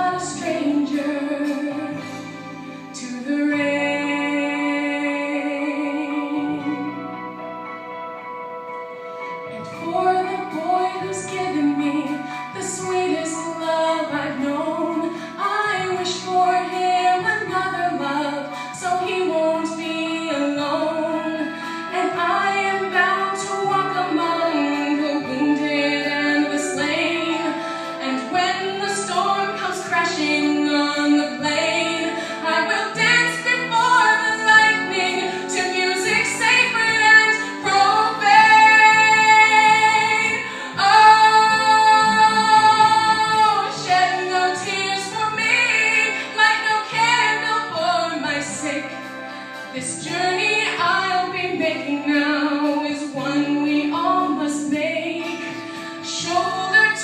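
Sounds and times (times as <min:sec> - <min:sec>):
instrumental accompaniment: 0:00.0 - 0:57.0
woman singing a ballad: 0:00.0 - 0:57.0.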